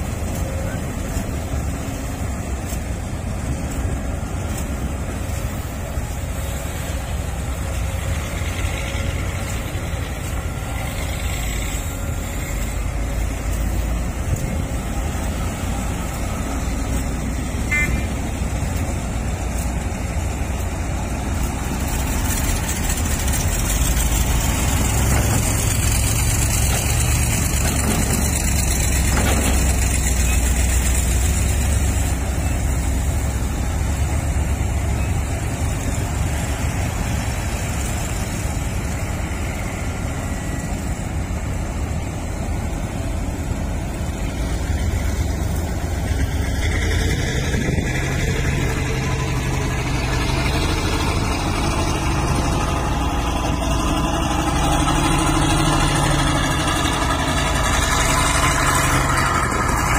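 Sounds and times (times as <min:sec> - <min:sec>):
excavator diesel engine rumbling: 0:00.0 - 0:59.9.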